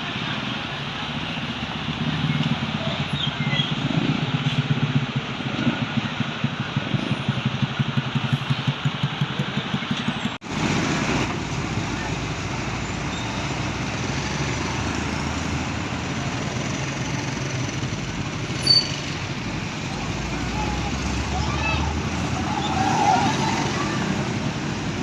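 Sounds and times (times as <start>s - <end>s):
passing vehicles: 0.0s - 25.0s.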